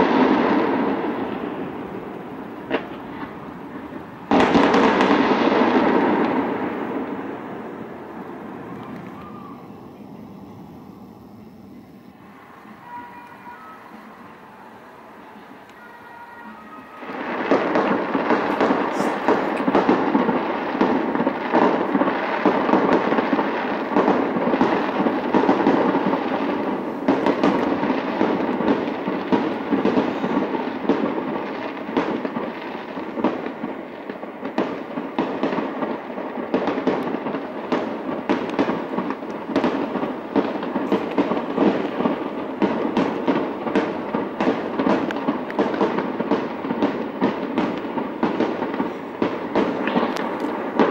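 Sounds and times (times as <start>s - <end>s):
fireworks crackling and popping: 0.0s - 50.9s
sharp firework bangs: 0.0s - 50.9s.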